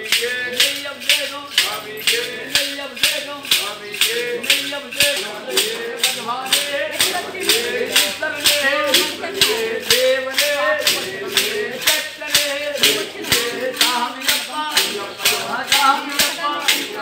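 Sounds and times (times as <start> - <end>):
group singing a devotional chant: 0.0 - 17.0
hand-clapping: 0.0 - 17.0.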